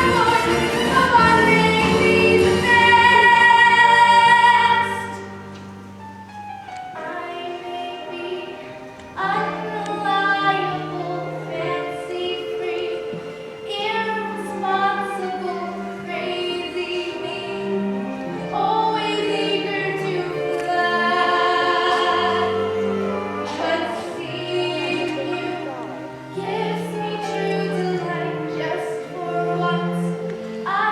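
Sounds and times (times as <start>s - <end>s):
instrumental accompaniment: 0.0s - 30.9s.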